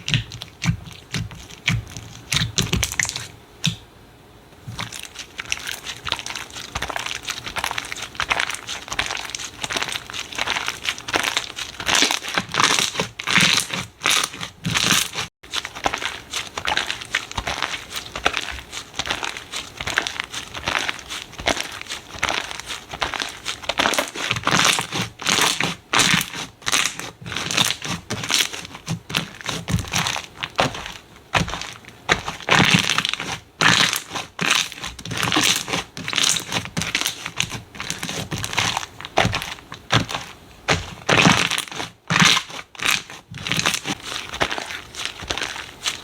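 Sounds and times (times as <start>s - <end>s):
hands squishing slime: 0.0s - 3.8s, 4.6s - 46.0s.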